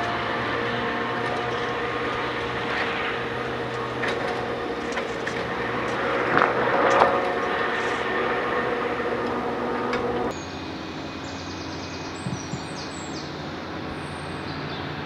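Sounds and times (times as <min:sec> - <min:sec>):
distant race car engine drone: 0:00.0 - 0:15.0.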